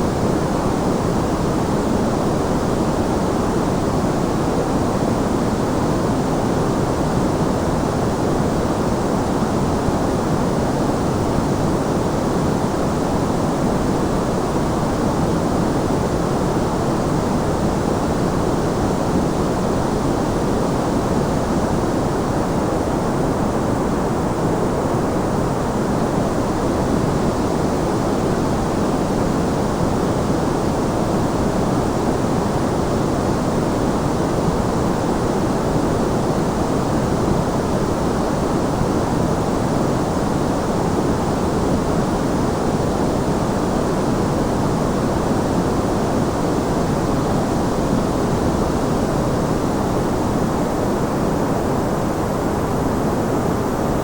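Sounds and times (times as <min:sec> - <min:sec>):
steady white noise: 0:00.0 - 0:54.0.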